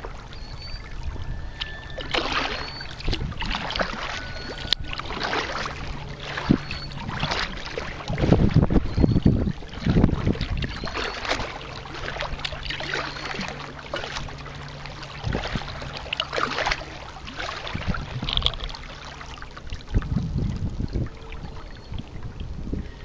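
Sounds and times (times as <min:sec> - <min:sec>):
kayak paddle splashing in water: 0:00.0 - 0:22.3
wind buffeting microphone: 0:00.0 - 0:23.0.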